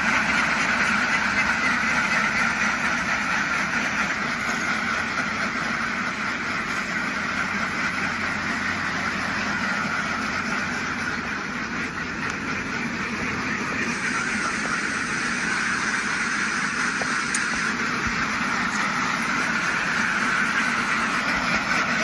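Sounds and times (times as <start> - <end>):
flock of ducks quacking: 0.0 - 22.0.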